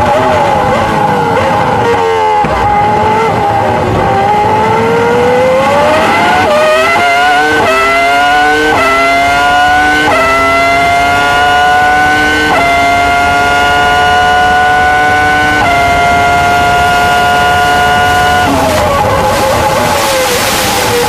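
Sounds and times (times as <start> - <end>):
racing car engine revving: 0.0 - 21.0.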